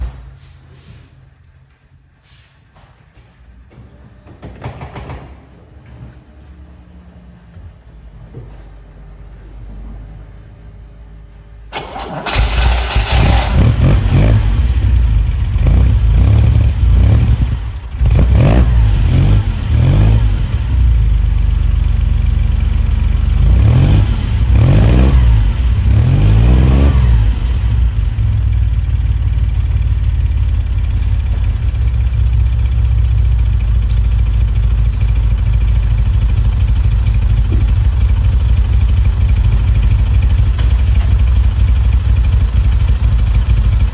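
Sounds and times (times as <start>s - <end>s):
car engine revving and idling: 6.5s - 43.9s.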